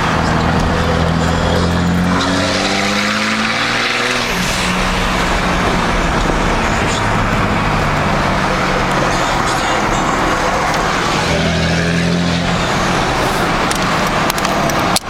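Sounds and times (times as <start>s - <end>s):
diesel engine accelerating: 0.0s - 15.0s
road noise: 0.0s - 15.0s.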